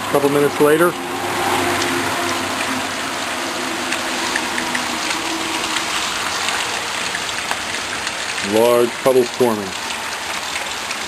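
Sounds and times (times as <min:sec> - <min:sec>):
drops ticking and splashing: 0:00.0 - 0:11.0
steady rain falling: 0:00.0 - 0:11.0.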